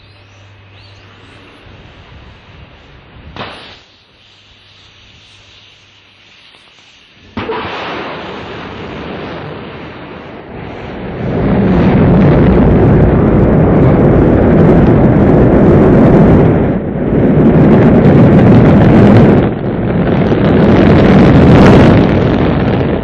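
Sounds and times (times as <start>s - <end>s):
rocket engines rumbling: 0.0s - 23.0s.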